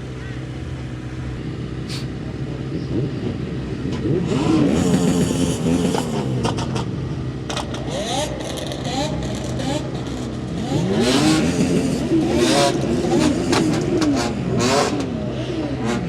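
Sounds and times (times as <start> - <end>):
vehicle engines idling and revving: 0.0 - 16.0.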